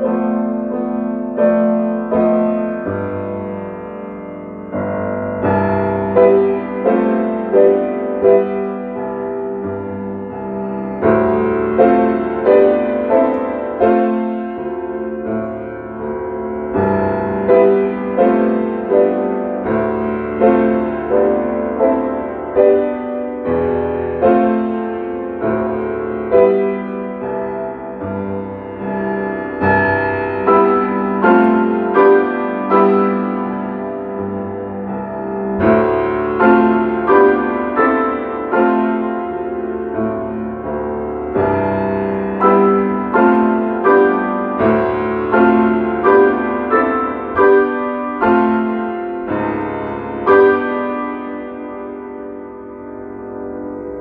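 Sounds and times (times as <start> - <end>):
solo piano music: 0.0 - 54.0.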